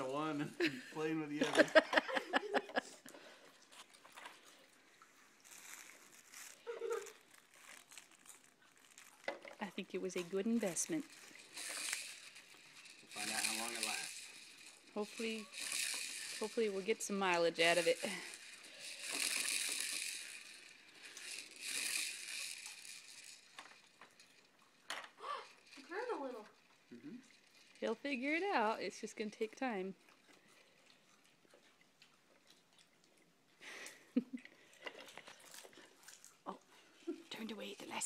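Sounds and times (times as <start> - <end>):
plastic toys clicking and rattling: 1.4 - 4.7, 5.4 - 33.1, 33.8 - 38.0.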